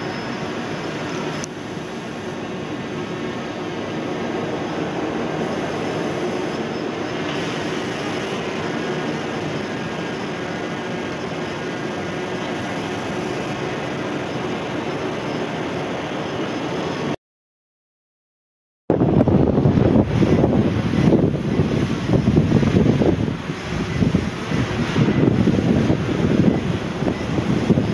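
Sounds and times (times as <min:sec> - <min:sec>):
drone propellers humming: 0:00.0 - 0:17.2, 0:18.9 - 0:27.9
rushing noise: 0:00.0 - 0:17.2, 0:18.9 - 0:27.9.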